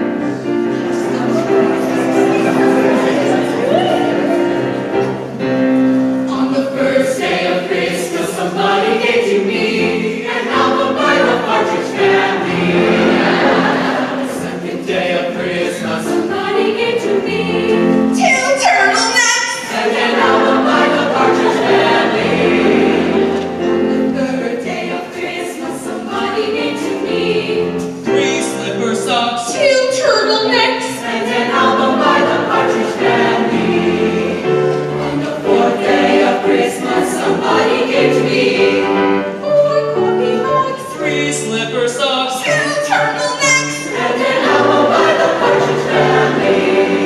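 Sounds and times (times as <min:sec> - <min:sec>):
mixed choir singing in harmony: 0:00.0 - 0:47.0.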